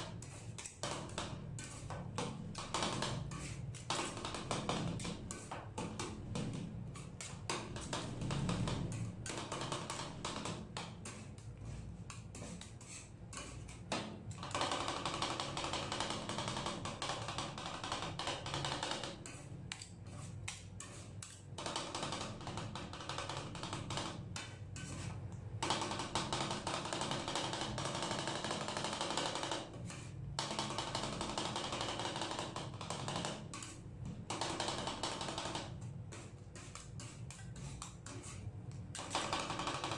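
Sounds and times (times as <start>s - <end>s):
metal spatulas tapping on metal plate: 0.0s - 39.9s.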